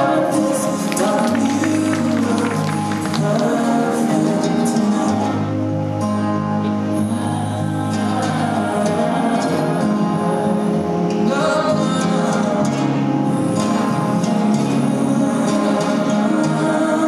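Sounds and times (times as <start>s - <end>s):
choir-like singing music: 0.0s - 17.0s.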